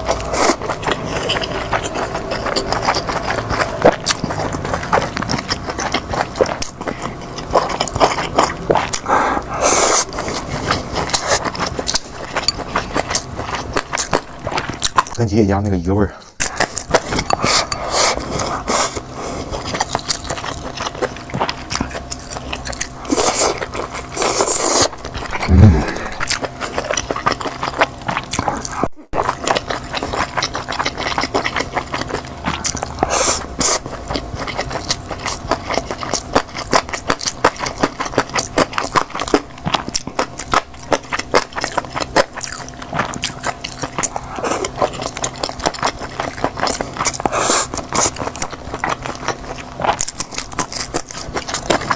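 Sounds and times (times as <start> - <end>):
chewing and mouth sounds: 0.0 - 51.9.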